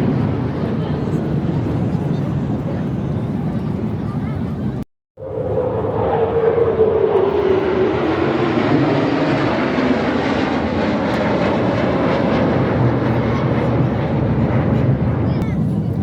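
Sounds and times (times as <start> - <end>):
aircraft flying past overhead: 0.0 - 16.0.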